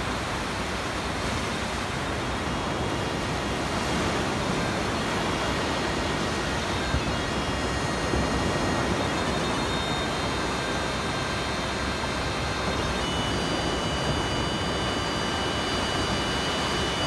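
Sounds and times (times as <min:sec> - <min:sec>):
waves breaking on beach: 0:00.0 - 0:15.5.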